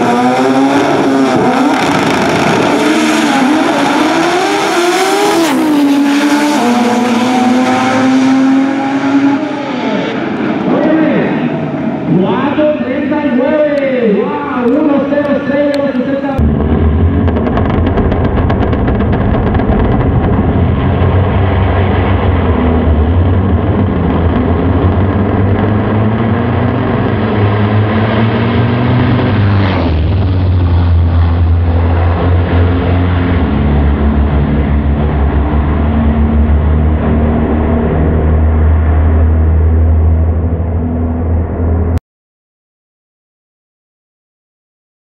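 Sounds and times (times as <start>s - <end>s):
race car engines roaring: 0.0s - 42.0s.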